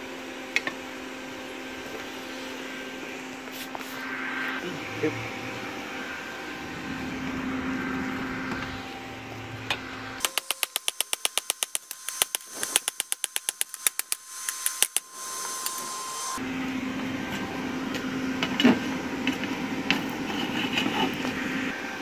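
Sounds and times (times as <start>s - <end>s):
forge air blower humming: 0.0s - 22.0s.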